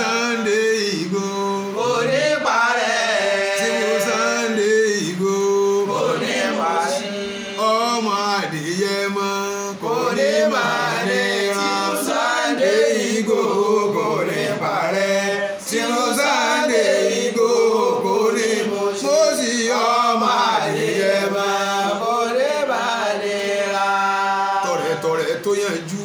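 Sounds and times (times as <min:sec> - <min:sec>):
man chanting slow melody: 0:00.0 - 0:23.3, 0:24.0 - 0:26.0.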